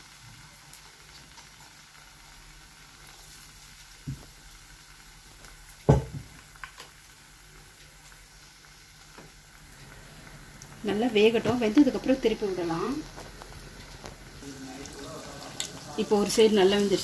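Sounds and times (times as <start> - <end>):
deep-frying sizzle in oil: 0.0 - 17.0.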